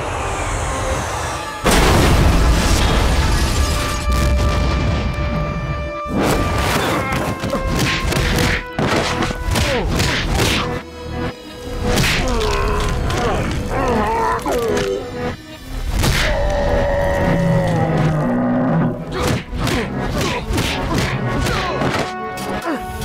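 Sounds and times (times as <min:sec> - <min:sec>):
dramatic music: 0:00.0 - 0:23.0.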